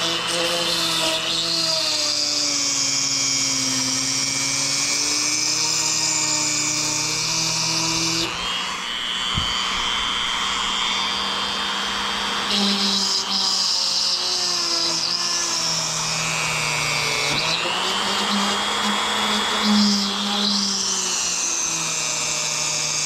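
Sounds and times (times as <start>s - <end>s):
rotary tool whining: 0.0s - 23.0s.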